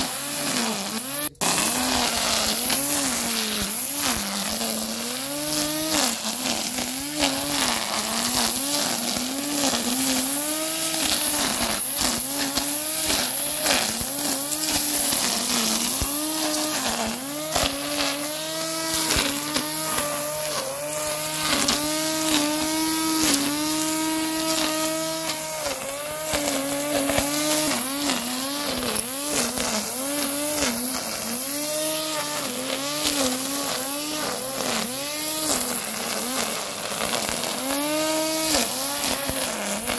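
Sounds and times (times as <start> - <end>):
grass trimmer motor whine: 0.0 - 39.9
trimmer line ticking on stems: 0.0 - 39.9.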